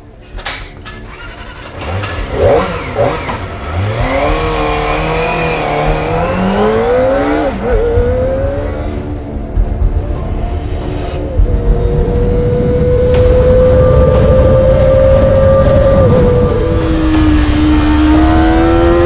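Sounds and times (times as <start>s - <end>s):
motorcycle engine accelerating: 0.8s - 19.0s.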